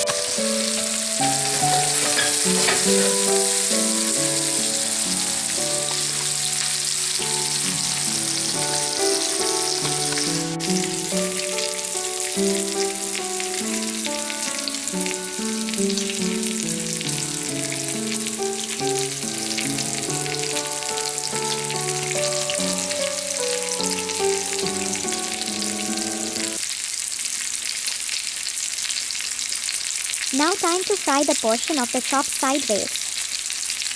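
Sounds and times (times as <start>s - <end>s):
meat sizzling in hot oil: 0.0s - 33.9s.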